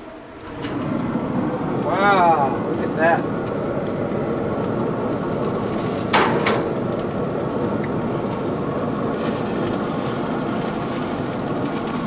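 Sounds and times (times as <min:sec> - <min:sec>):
kebabs sizzling on a grill: 0:00.7 - 0:12.0.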